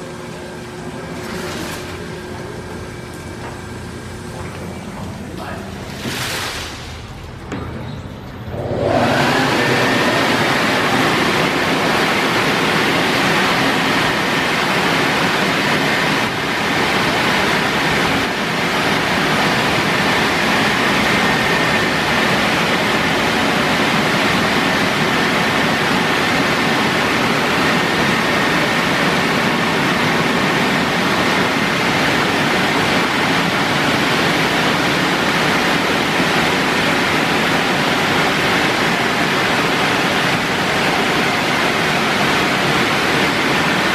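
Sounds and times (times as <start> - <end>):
car wash rushing noise: 0.0 - 43.9.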